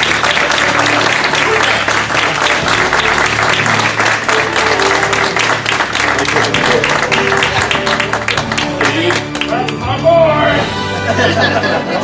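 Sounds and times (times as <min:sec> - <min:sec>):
audience applauding: 0:00.0 - 0:09.8
instrumental music: 0:00.0 - 0:12.0.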